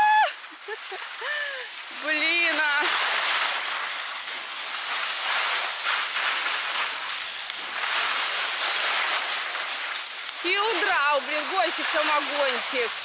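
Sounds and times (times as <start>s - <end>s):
skis scraping over snow: 0.0s - 13.0s.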